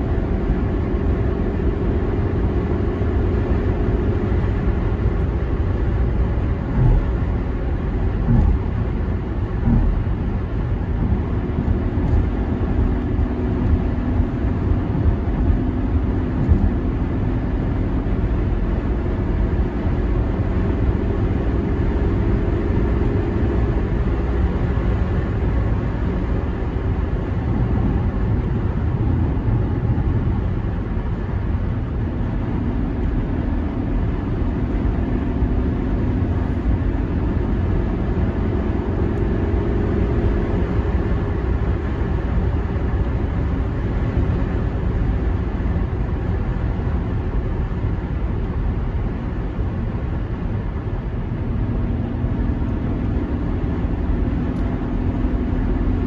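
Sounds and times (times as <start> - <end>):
car engine hum: 0.0 - 56.0
tyre and road noise: 0.0 - 56.0.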